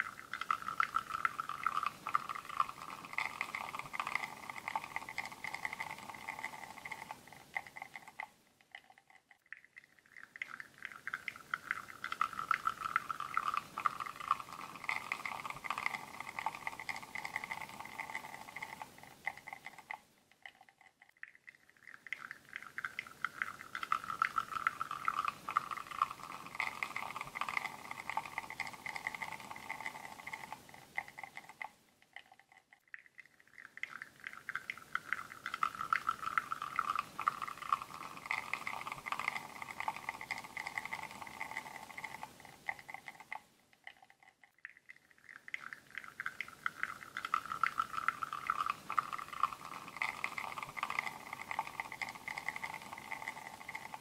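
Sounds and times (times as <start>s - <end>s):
espresso dripping into cup: 0.0s - 54.0s.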